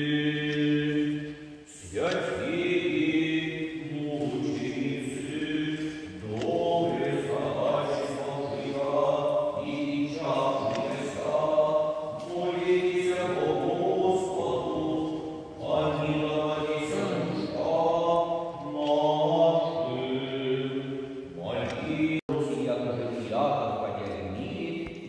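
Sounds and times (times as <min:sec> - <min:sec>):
choir singing a chant: 0:00.0 - 0:25.0.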